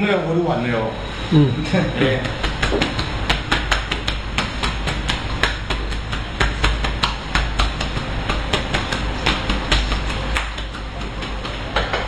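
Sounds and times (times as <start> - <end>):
hands slapping a back: 2.1 - 12.0.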